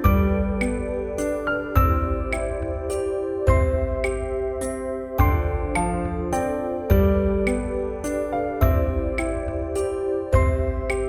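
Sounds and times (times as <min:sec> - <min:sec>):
gentle instrumental music: 0:00.0 - 0:11.0.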